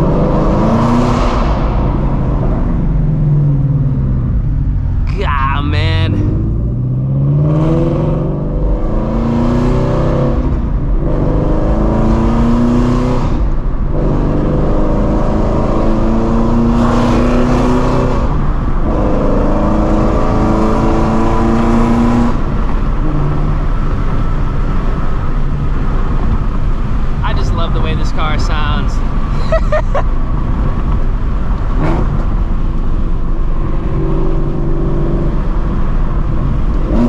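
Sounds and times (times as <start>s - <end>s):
car engine accelerating hard: 0.0s - 29.3s, 30.0s - 37.0s.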